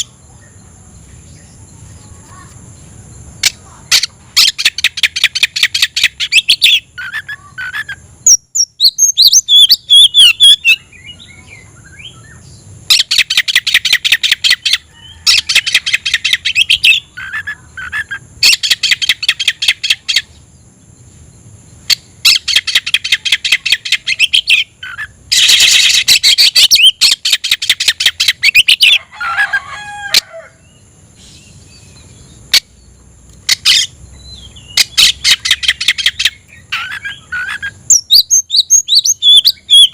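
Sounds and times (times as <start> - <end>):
magpie-robin singing: 3.4 - 20.4, 21.8 - 29.0, 31.2 - 39.9.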